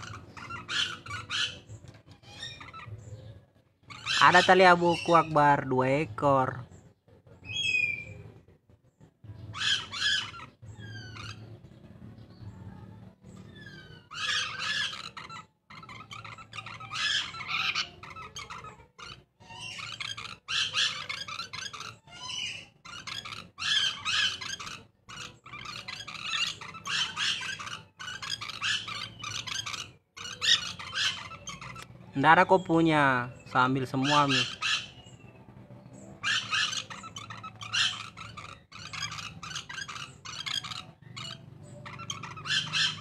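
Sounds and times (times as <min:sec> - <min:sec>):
lorikeets screeching: 0:00.0 - 0:08.4, 0:09.3 - 0:43.0.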